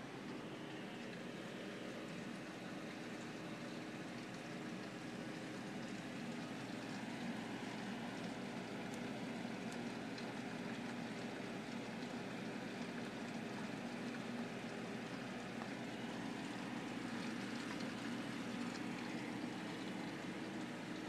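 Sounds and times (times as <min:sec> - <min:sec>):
water bubbling and trickling: 0:00.1 - 0:21.0.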